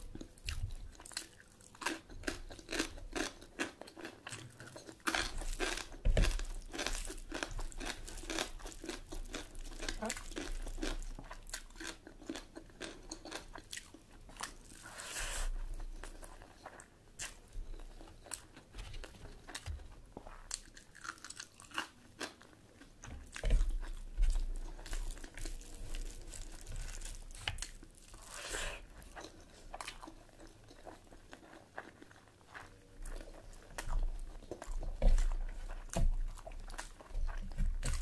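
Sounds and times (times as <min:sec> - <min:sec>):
chewing and biting food: 0:00.0 - 0:38.0.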